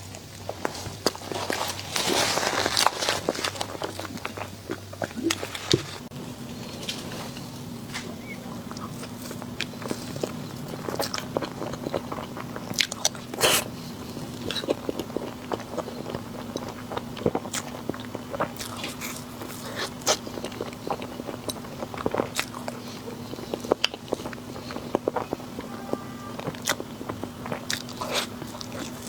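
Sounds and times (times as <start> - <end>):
crunchy chewing of sweets: 0.0 - 29.0.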